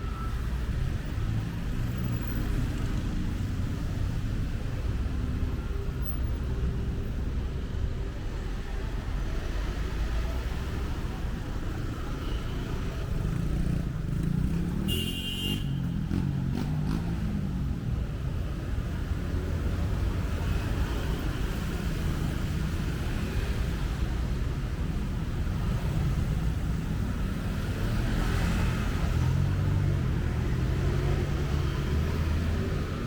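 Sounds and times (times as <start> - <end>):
city street traffic rumble: 0.0 - 33.0.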